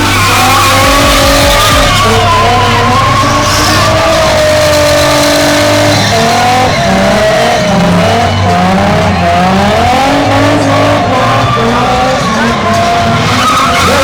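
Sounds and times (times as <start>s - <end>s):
car engine revving: 0.0s - 14.0s
tyres squealing: 0.0s - 14.0s.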